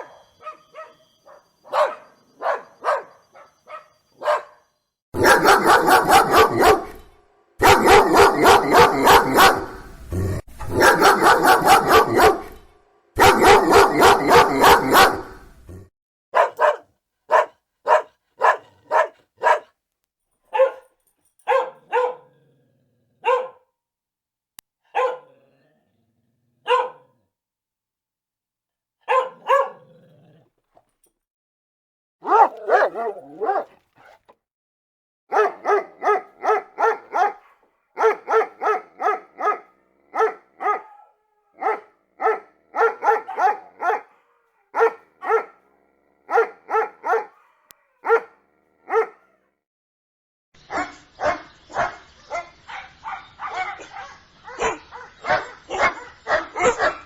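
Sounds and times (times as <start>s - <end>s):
dog barking: 0.0s - 9.9s, 10.6s - 19.8s, 20.5s - 22.4s, 23.2s - 23.7s, 24.9s - 25.4s, 26.6s - 27.2s, 29.0s - 30.0s, 32.2s - 34.4s, 35.3s - 49.5s, 50.7s - 57.0s.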